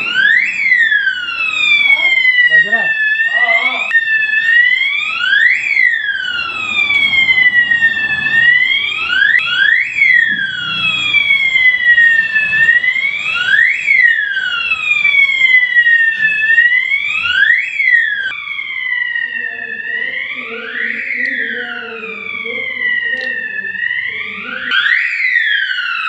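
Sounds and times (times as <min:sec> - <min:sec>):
fire alarm siren wailing: 0:00.0 - 0:26.0.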